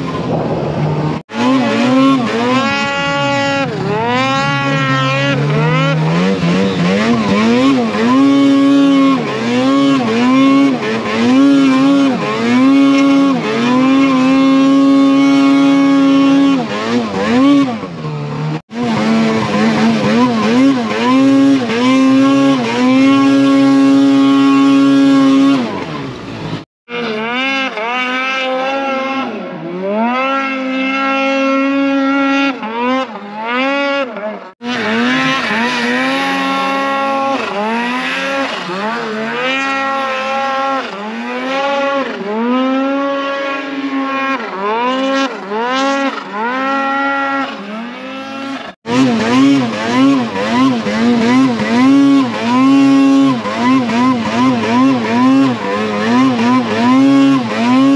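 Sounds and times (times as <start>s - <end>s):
snowmobile engine revving: 0.0s - 57.9s.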